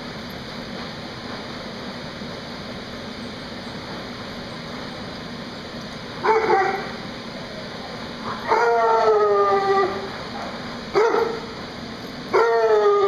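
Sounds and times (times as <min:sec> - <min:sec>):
blower fan humming: 0:00.0 - 0:13.0.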